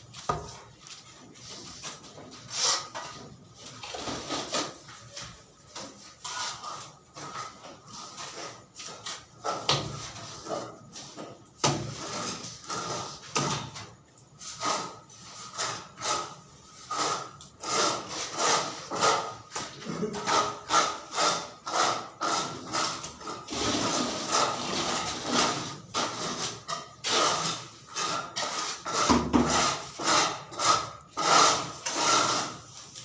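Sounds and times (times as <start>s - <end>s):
hand tool scraping strokes: 1.2s - 11.3s, 11.9s - 13.4s, 14.4s - 33.0s.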